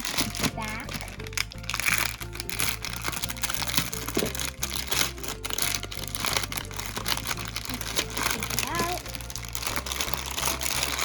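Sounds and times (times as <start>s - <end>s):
background music with held notes: 0.0s - 11.0s
packaging crinkling and tearing: 0.0s - 11.0s.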